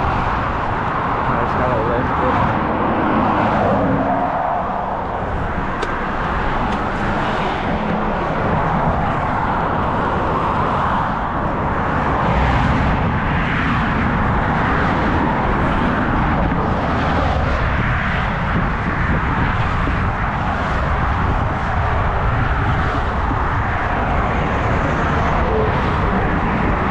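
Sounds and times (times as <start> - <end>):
highway traffic rushing past: 0.0 - 26.9.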